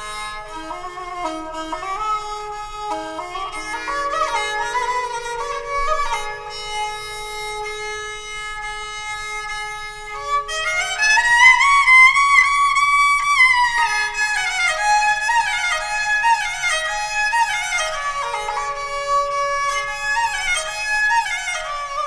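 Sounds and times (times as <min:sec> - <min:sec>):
bowed string instrument melody: 0:00.0 - 0:22.0.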